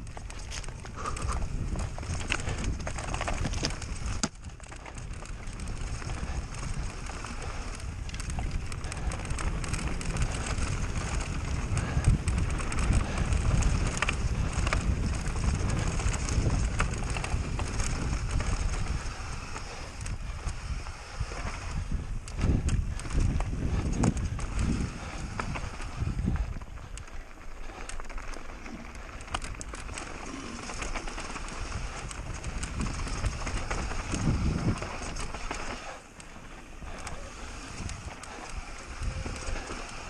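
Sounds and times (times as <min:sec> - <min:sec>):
bike rattling and knocking: 0:00.0 - 0:40.0
tyres on dirt and stones: 0:00.0 - 0:40.0
wind buffeting microphone: 0:00.0 - 0:40.0.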